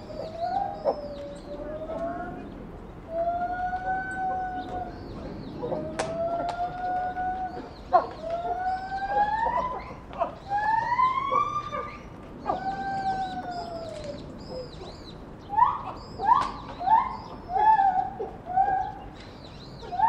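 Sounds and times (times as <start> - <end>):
ape wooing calls: 0.0 - 14.9, 15.5 - 19.2.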